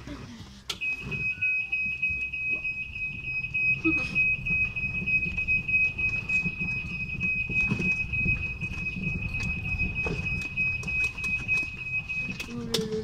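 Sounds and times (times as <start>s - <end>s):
high-pitched electronic warning beep: 0.8s - 12.7s.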